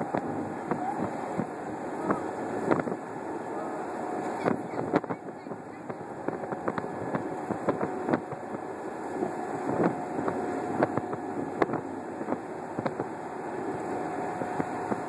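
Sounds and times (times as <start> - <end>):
boat engine hum: 0.0 - 15.0
wind buffeting microphone: 0.0 - 15.0.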